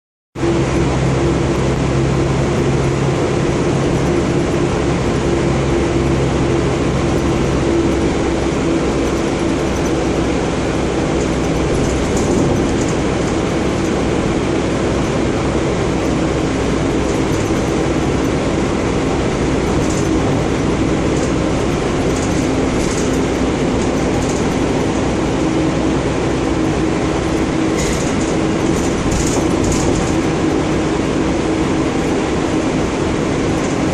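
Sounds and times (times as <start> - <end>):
bus engine humming: 0.4 - 33.9.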